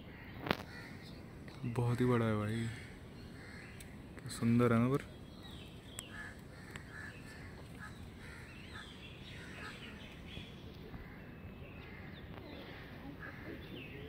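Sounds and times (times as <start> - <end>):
birds calling: 0.0 - 14.0
low background noise: 0.0 - 14.0.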